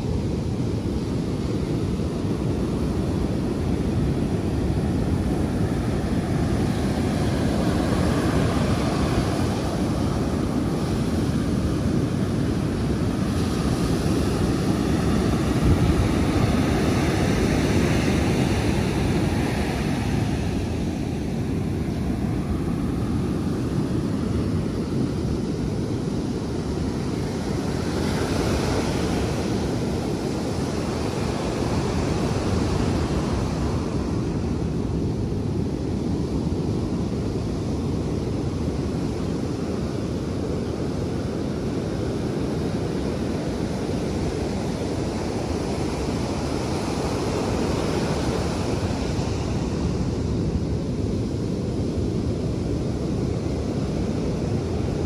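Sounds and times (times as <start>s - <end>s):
wind rumble on microphone: 0.0s - 55.0s
surf washing onto beach: 0.4s - 55.0s.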